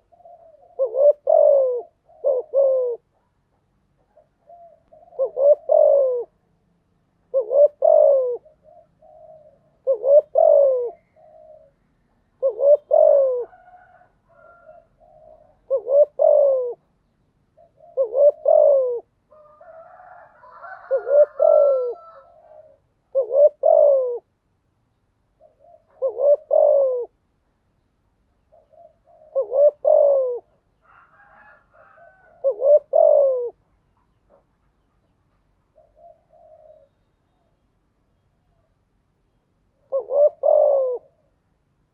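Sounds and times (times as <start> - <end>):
dove cooing: 0.0 - 6.6, 7.2 - 24.4, 25.3 - 27.2, 28.4 - 34.5, 35.6 - 37.6, 39.7 - 41.5.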